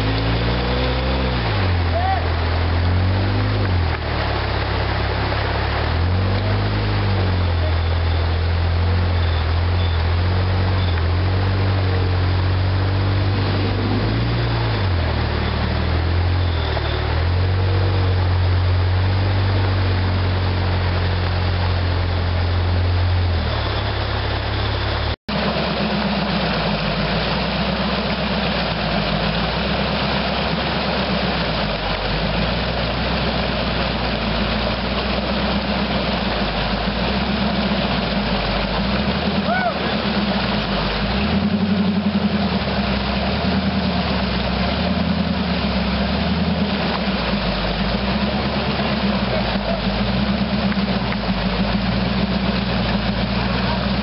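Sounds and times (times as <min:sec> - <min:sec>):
creek water rushing: 0:00.0 - 0:54.0
engine at low revs: 0:00.0 - 0:54.0
second engine running steadily: 0:00.0 - 0:54.0.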